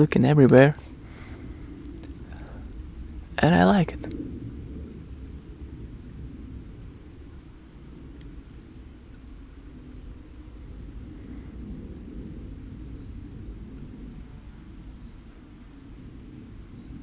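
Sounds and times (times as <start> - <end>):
insects trilling: 0.0 - 17.0
low rumble: 0.0 - 17.0.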